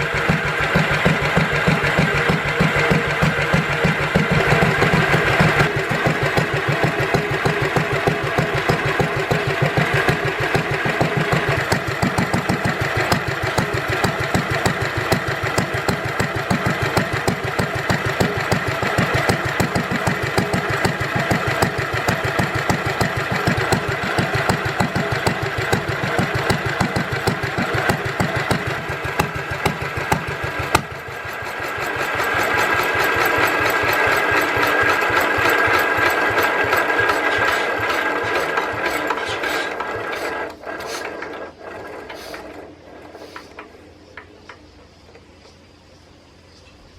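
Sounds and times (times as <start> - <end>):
stationary engine running: 0.0 - 44.2.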